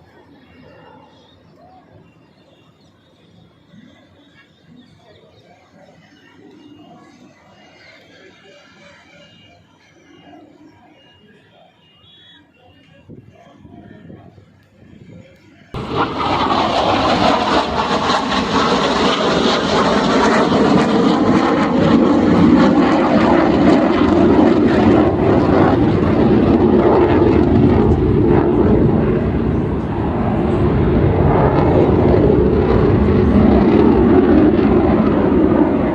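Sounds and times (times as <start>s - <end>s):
military aircraft engine roar: 0.0s - 35.9s.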